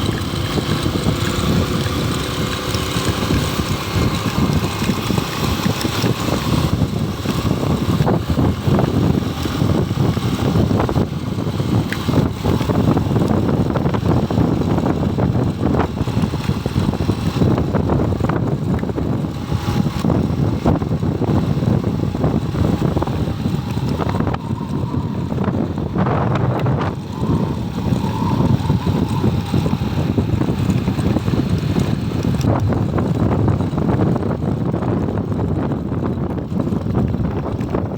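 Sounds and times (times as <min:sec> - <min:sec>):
motorcycle engine running: 0:00.0 - 0:37.9
wind buffeting microphone: 0:00.0 - 0:37.9.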